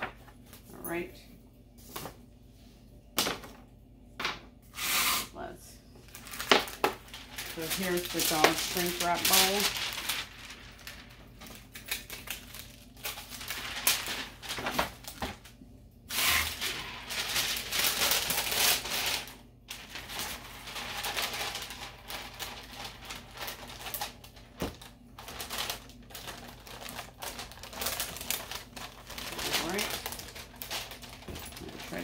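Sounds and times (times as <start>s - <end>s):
plastic shrink wrap crinkling: 6.0s - 32.0s.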